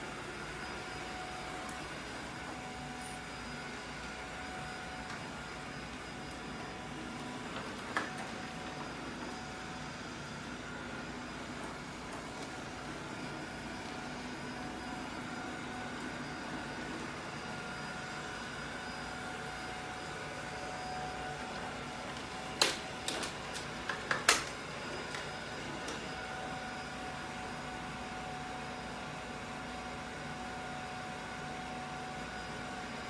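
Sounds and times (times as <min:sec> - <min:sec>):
robot vacuum humming: 0:00.0 - 0:33.0.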